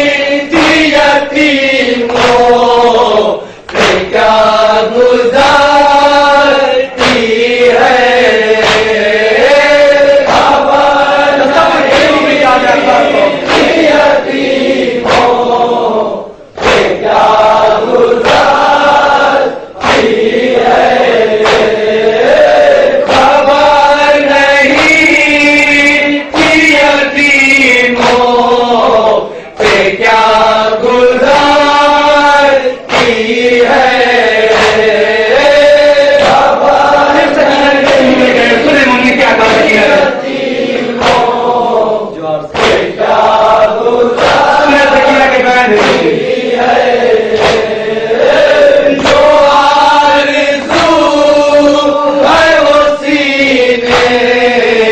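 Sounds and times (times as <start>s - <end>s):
men chanting: 0.0s - 54.9s.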